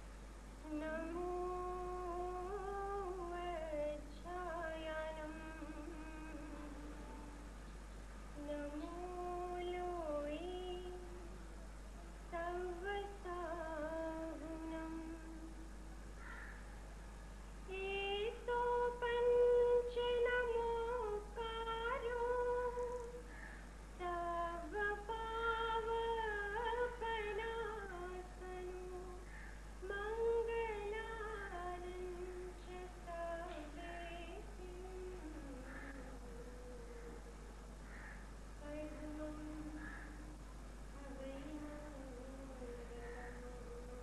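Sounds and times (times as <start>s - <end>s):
steady low hum: 0.0s - 44.0s
woman singing: 0.6s - 7.5s, 8.4s - 11.4s, 12.3s - 15.7s, 17.7s - 23.3s, 24.0s - 37.3s, 38.6s - 44.0s.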